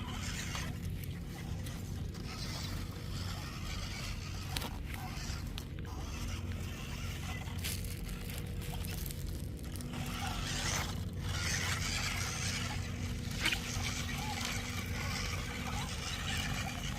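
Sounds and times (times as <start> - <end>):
low motor hum: 0.0 - 16.9
toy truck scraping over ground: 0.0 - 16.9.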